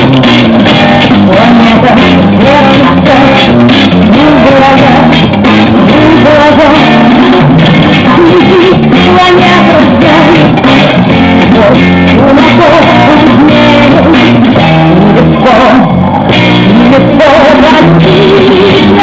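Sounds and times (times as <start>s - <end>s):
loud dance music with singing: 0.0s - 19.0s.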